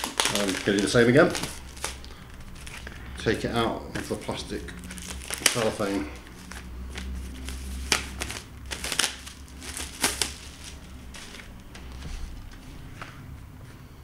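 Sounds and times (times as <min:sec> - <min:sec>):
cellophane wrapping crinkling: 0:00.0 - 0:12.6.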